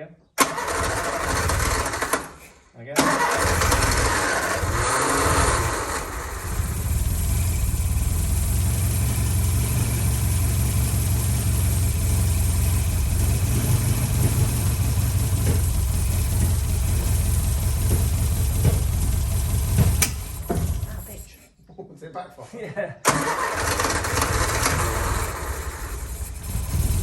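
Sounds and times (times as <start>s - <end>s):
car engine idling: 3.2s - 21.3s, 23.1s - 27.0s.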